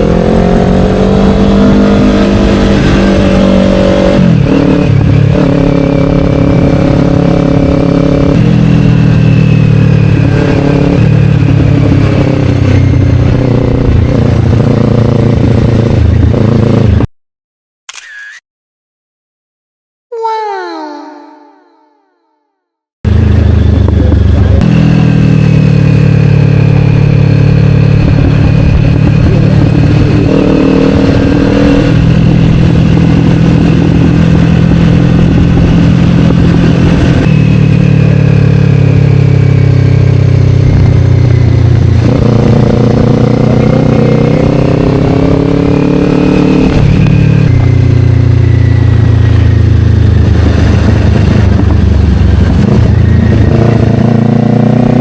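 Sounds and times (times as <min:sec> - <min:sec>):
motorcycle engine while riding: 0:00.0 - 0:17.1, 0:23.1 - 0:55.0.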